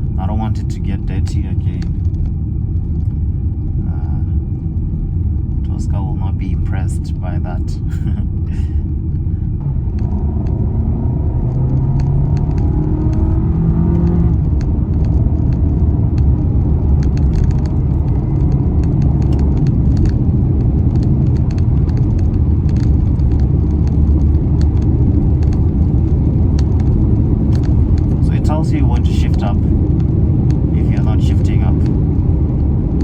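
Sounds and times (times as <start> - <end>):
car engine: 0.0 - 33.0
road rumble: 0.0 - 33.0.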